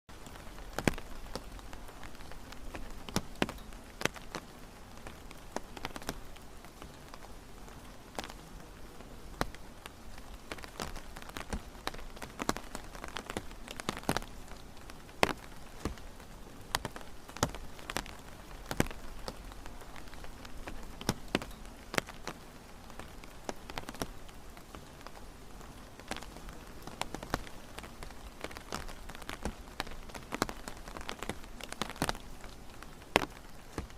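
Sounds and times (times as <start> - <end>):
rain falling: 0.1 - 33.9
raindrops tapping nearby: 0.1 - 33.9.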